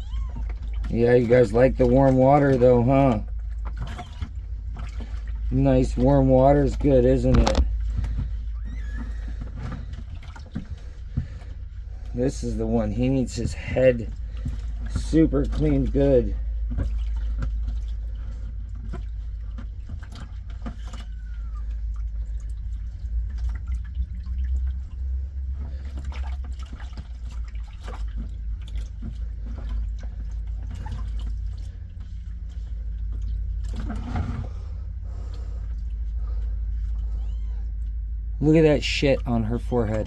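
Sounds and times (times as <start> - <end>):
steady low hum: 0.0 - 40.0
water sloshing in a bucket: 0.0 - 40.0.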